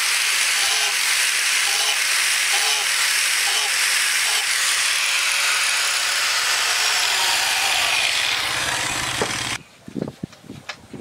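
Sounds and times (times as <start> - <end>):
angle grinder running: 0.0 - 9.6.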